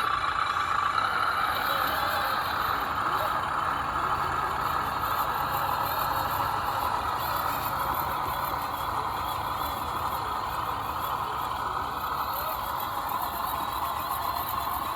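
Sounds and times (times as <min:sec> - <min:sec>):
electric motor and drivetrain whining: 0:00.0 - 0:14.9.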